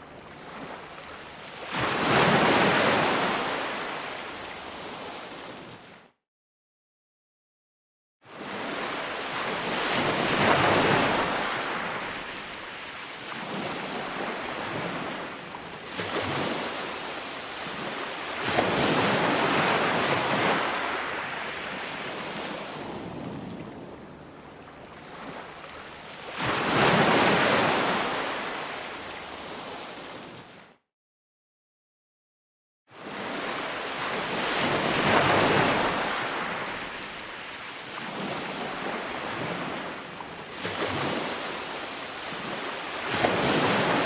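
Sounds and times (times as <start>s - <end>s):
ocean waves breaking on shore: 0.0s - 6.1s, 8.3s - 30.8s, 33.0s - 44.0s.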